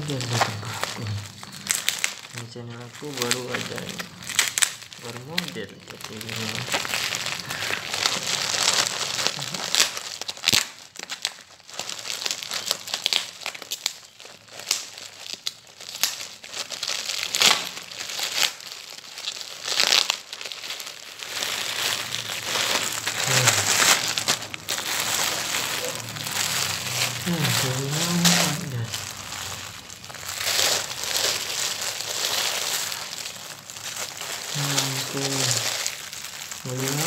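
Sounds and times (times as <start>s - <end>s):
plastic mailer tearing: 0.0s - 37.0s
plastic packaging crinkling: 0.0s - 37.0s.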